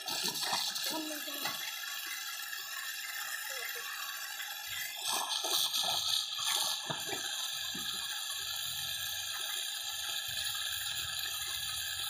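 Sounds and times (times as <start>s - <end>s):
water jetting onto grass: 0.0s - 12.0s.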